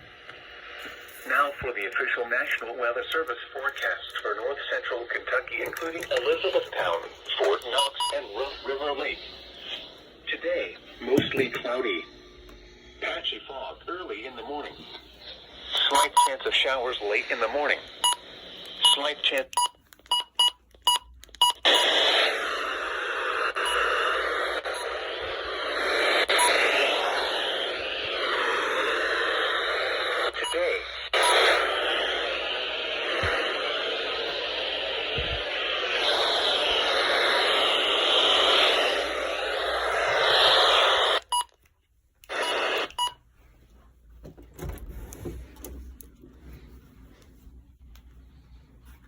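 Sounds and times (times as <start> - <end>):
radio static hiss: 0.0 - 20.4, 21.4 - 41.4, 42.2 - 43.2.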